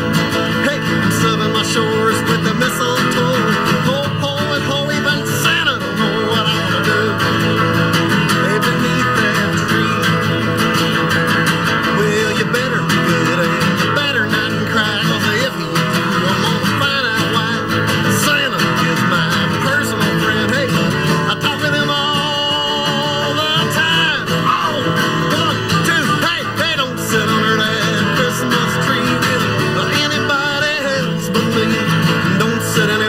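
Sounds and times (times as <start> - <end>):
person singing: 0.0 - 10.6, 11.7 - 33.0
band playing live: 0.0 - 33.0
strummed guitars: 0.0 - 33.0.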